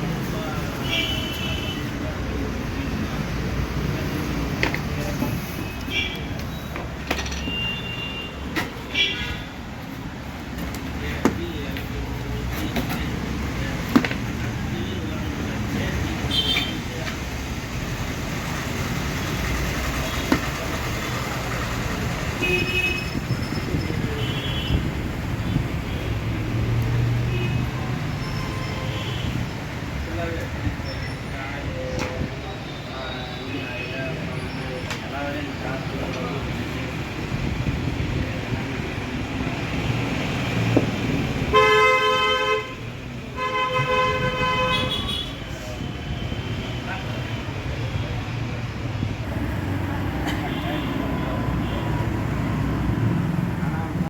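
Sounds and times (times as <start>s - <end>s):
street traffic noise: 0.0s - 54.0s.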